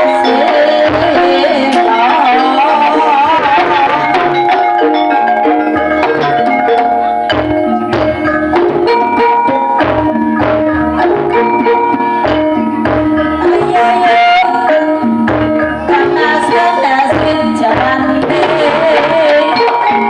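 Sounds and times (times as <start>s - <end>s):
hand drum beats: 0.0s - 20.0s
metallophone notes: 0.0s - 20.0s
wavering melodic line: 0.0s - 20.0s.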